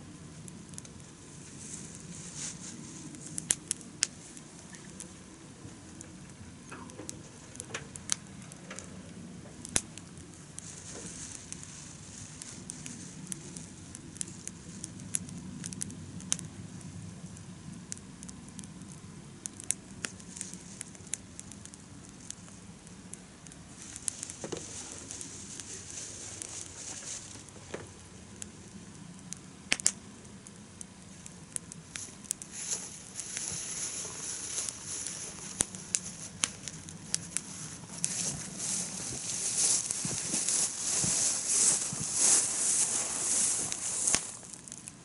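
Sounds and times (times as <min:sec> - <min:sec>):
campfire crackling and popping: 0:00.0 - 0:45.0
low fire hiss: 0:00.0 - 0:45.0.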